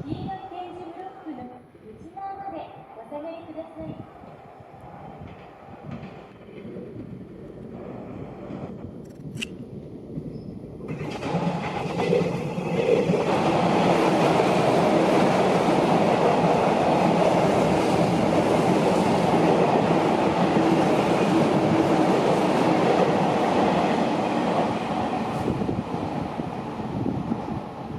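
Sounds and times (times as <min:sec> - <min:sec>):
train wheels rumbling on rails: 0:04.0 - 0:27.9.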